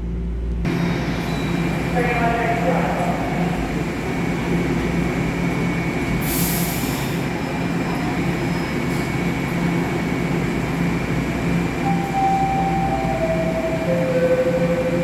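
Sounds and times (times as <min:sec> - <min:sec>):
subway train running: 0:00.0 - 0:15.0.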